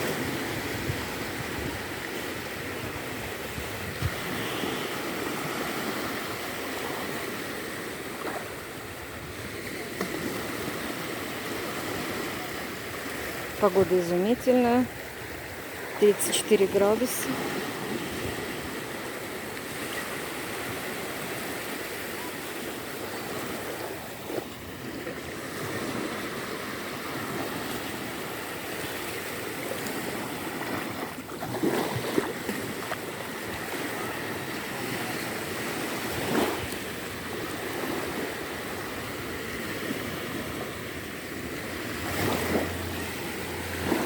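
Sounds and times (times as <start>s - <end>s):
small waves washing onto shore: 0.0s - 44.0s.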